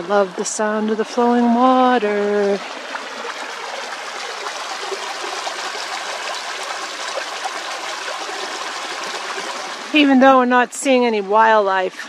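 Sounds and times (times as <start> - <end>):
stream babbling over rocks: 0.0 - 12.0.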